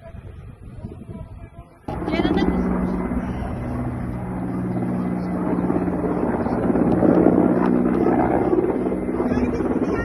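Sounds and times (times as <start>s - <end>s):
steady engine drone: 1.9s - 10.0s.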